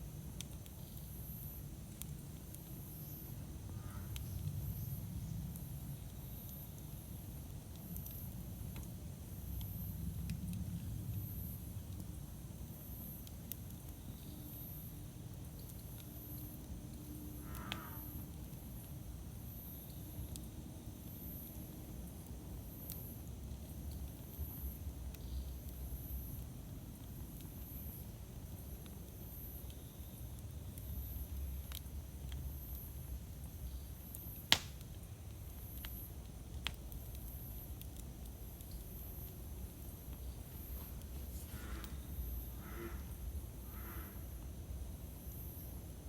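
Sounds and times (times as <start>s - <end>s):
fire crackling pops: 0.0s - 43.6s
campfire rumbling: 0.0s - 46.0s.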